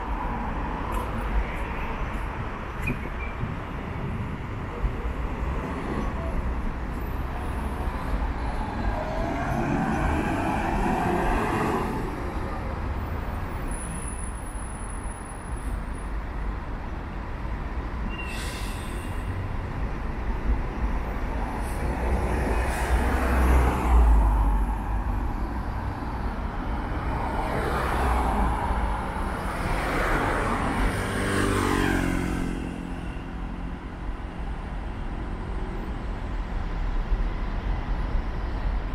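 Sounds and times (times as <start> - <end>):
cars and buses passing: 0.0 - 38.9
low traffic rumble: 0.0 - 38.9.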